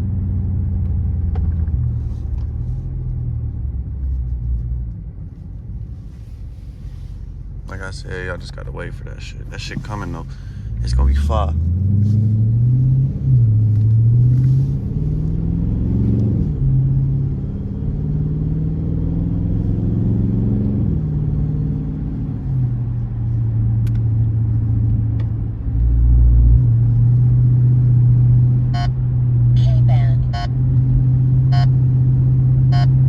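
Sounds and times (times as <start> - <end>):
car engine accelerating: 6.0 - 33.0.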